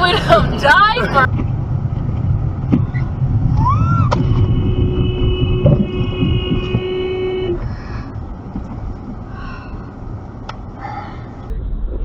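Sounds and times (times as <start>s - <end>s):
low road noise rumble: 0.0s - 12.0s.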